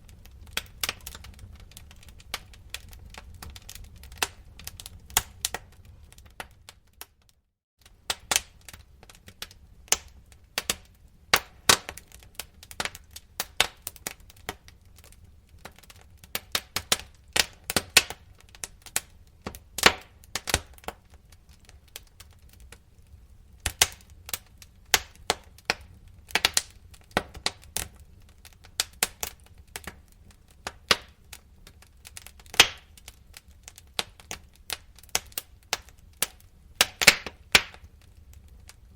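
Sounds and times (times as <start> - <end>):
low rumble of burning: 0.0 - 38.9
wood fire crackling: 0.0 - 38.9.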